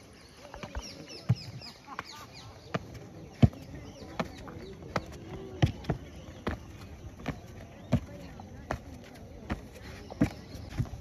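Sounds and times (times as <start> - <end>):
birds chirping: 0.0 - 11.0
feet thudding on dirt: 0.6 - 11.0.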